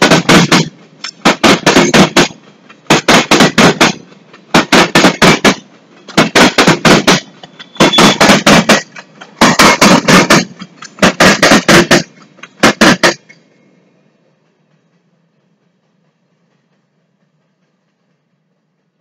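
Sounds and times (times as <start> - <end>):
train wheels clacking over track: 0.0 - 19.0.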